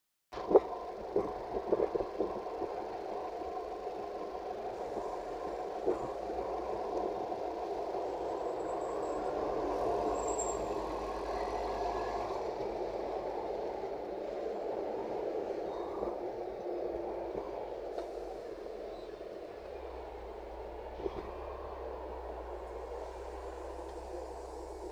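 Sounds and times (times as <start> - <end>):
bus drawing up: 0.4 - 24.9
cars and buses passing: 0.4 - 24.9.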